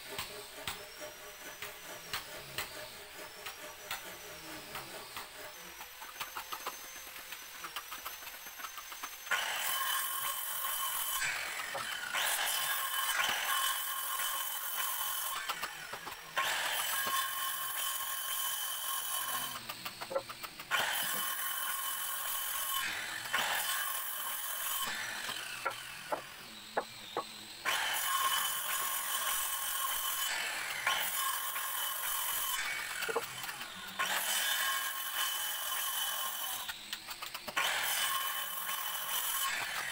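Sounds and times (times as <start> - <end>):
circular saw cutting timber: 0.0 - 39.9.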